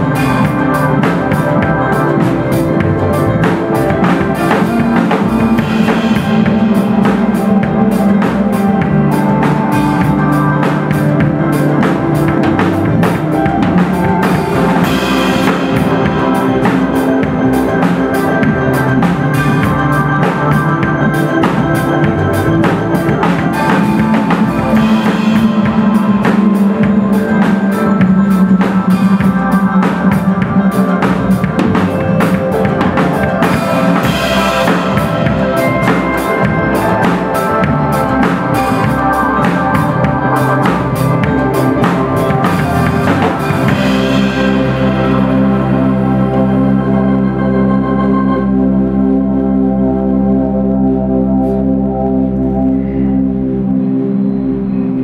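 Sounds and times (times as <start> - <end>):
music with drum beat and chords: 0.0 - 49.6.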